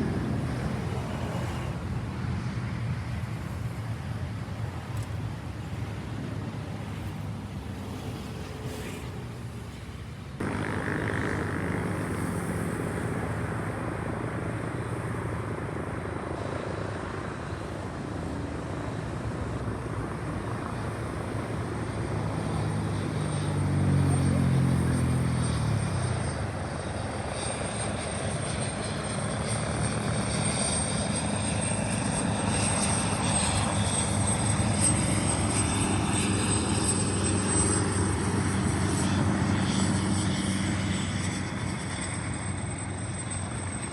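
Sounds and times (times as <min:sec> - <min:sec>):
airliner engines rushing: 0:00.0 - 0:43.9.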